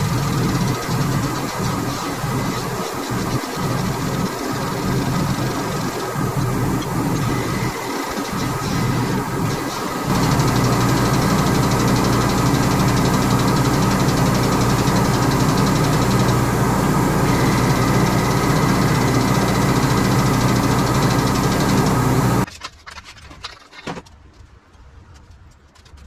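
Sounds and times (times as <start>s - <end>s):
hydraulic pump humming: 0.0s - 22.5s.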